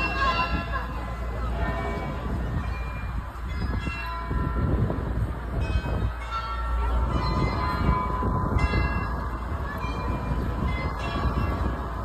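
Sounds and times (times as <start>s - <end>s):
bells playing a tune: 0.0s - 12.0s.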